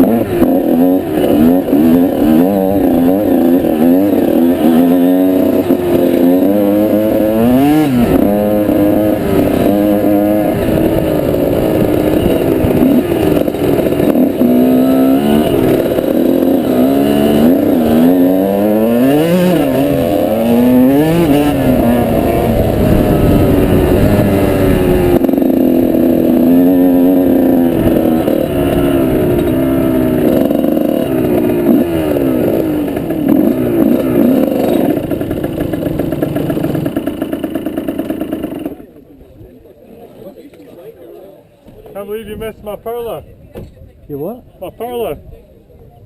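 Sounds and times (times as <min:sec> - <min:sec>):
off-road motorbike engine revving: 0:00.0 - 0:39.2.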